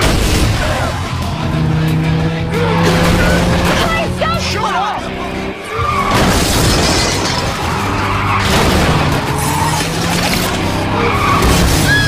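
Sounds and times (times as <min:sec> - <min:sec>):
car engines running hard: 0:00.0 - 0:12.0
tyres skidding on dirt: 0:00.0 - 0:12.0.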